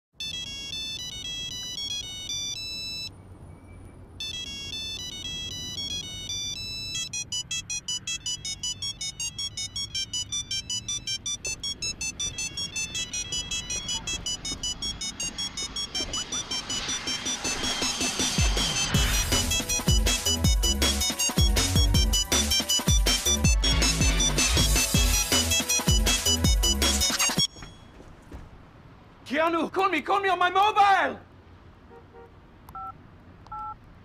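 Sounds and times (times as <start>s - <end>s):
beeping phone ringtone melody: 0.2s - 3.1s, 4.2s - 28.0s, 32.8s - 33.8s.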